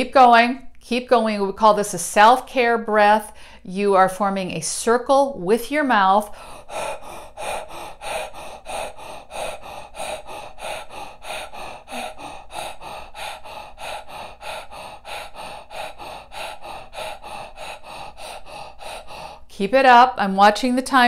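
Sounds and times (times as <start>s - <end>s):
woman breathing rapidly: 1.1s - 20.3s.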